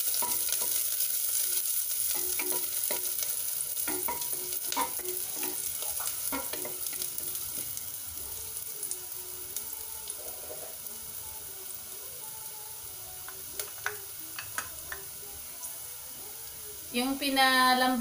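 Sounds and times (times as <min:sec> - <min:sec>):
onion and garlic sizzling in oil: 0:00.0 - 0:18.0.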